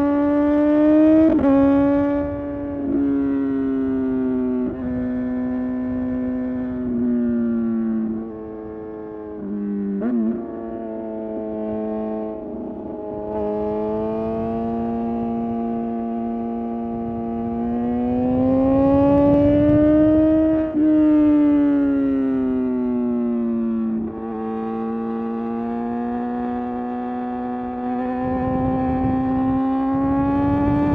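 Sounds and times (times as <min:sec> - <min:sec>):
motorcycle engine at high revs: 0:00.0 - 0:30.9.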